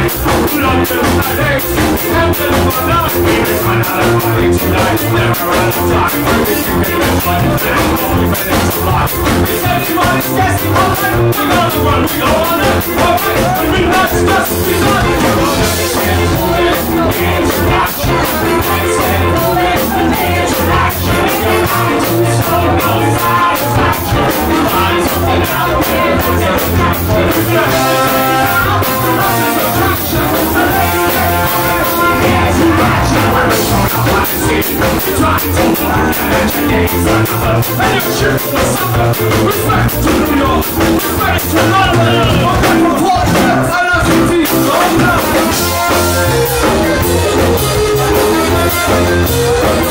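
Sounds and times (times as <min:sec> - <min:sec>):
person singing: 0:00.0 - 0:49.9
ska band playing: 0:00.0 - 0:49.9.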